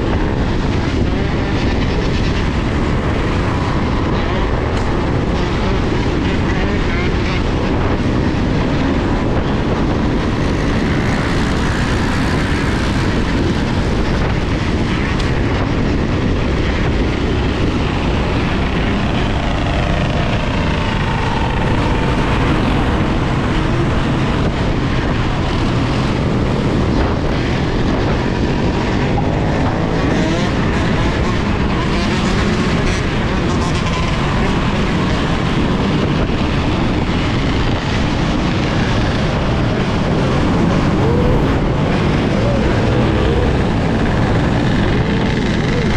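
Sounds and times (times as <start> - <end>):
wind rush on microphone: 0.0 - 45.9.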